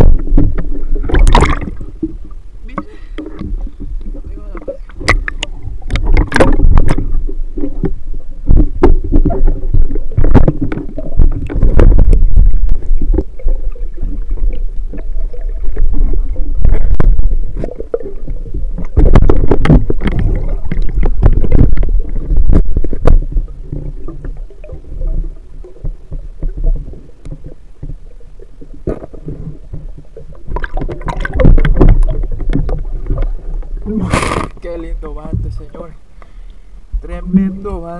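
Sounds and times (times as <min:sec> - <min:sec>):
underwater rumble and rushing water: 0:00.0 - 0:37.9.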